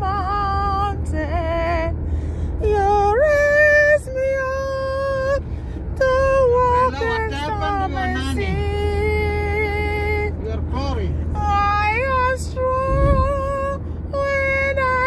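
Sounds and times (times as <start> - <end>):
car rumble in motion: 0.0 - 15.0.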